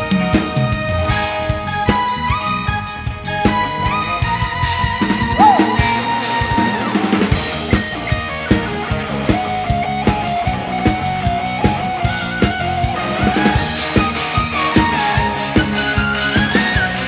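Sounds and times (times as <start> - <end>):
drum kit playing: 0.0 - 17.0
recorded song with guitar: 0.0 - 17.0.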